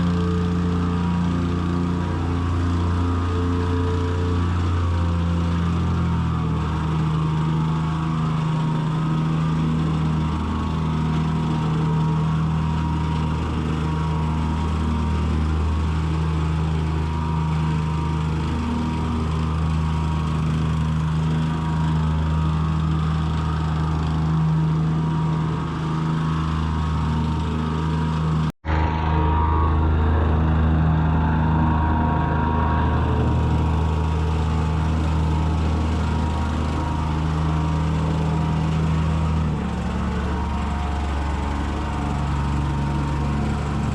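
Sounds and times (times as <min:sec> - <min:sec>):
heavy machinery engine running: 0:00.0 - 0:43.9.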